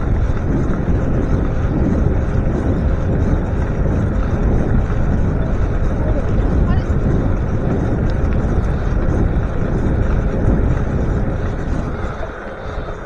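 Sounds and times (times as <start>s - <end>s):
bicycle tyre road noise: 0.0s - 13.0s
wind buffeting microphone: 0.0s - 13.0s.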